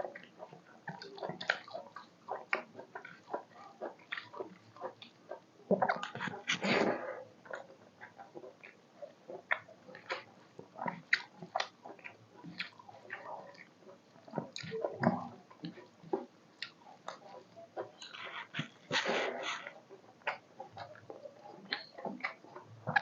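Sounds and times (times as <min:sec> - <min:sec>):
chewing and wet mouth sounds: 0:00.0 - 0:23.0.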